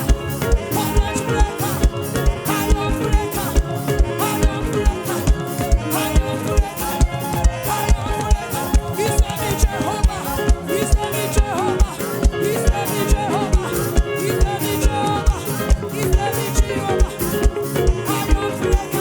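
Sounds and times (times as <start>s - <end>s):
gospel band music: 0.0s - 19.0s
shaker percussion: 0.0s - 19.0s.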